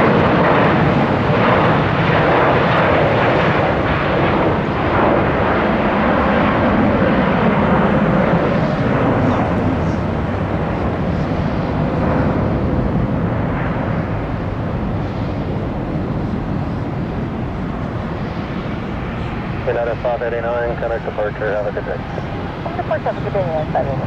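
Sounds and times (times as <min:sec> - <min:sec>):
jet airliner engines roaring: 0:00.0 - 0:24.0.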